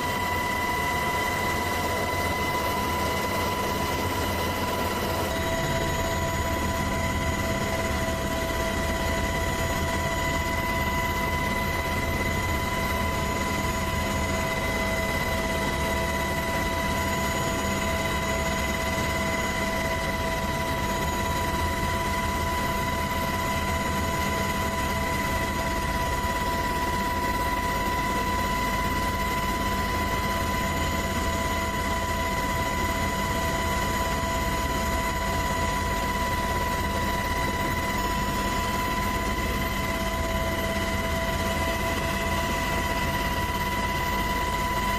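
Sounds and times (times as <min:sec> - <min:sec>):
helicopter rotor and engine rumble: 0:00.0 - 0:44.9.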